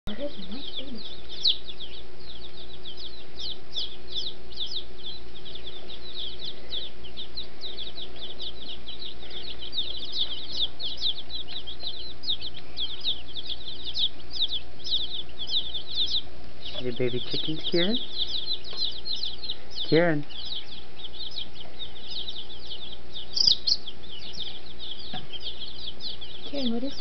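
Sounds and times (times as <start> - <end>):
baby chicks peeping: 0.0 - 27.0.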